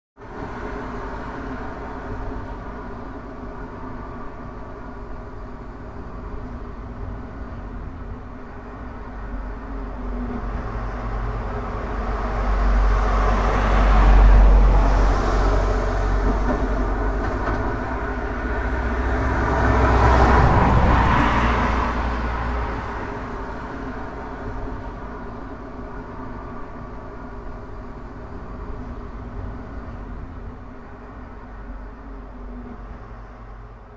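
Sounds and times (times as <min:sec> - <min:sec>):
cars passing: 0:00.2 - 0:33.9.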